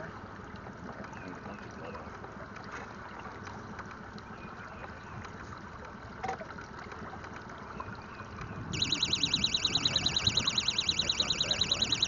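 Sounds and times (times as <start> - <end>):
water trickling against boat hull: 0.0 - 12.0.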